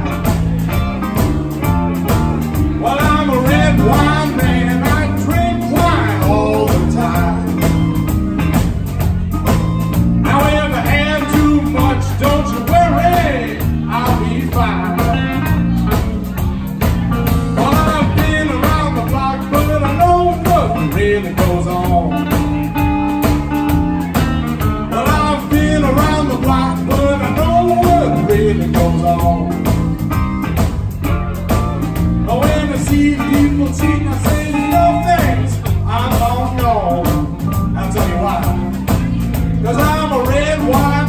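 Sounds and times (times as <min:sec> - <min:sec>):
drums: 0:00.0 - 0:41.0
electric blues band playing: 0:00.0 - 0:41.0
electric guitar lead bending: 0:00.0 - 0:41.0.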